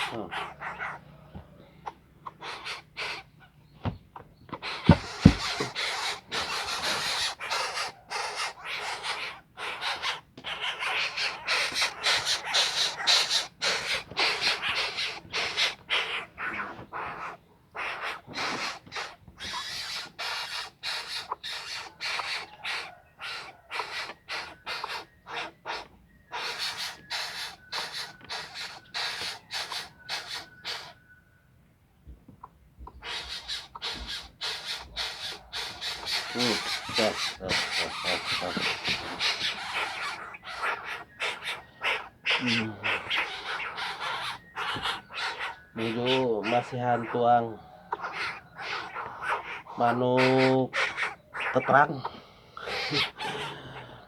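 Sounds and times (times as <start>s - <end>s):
bird raspy hissing: 0.0s - 1.2s, 2.4s - 3.3s, 4.6s - 31.0s, 33.0s - 54.0s.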